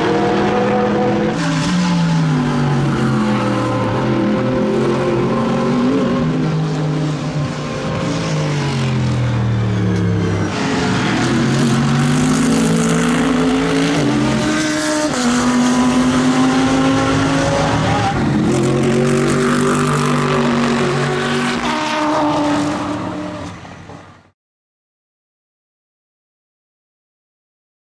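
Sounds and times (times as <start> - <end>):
race car engines revving: 0.0 - 24.2.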